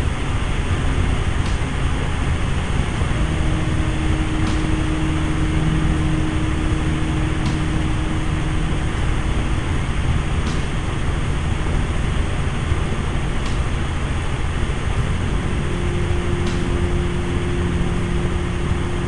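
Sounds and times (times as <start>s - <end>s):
helicopter engine and rotor noise: 0.0s - 19.0s.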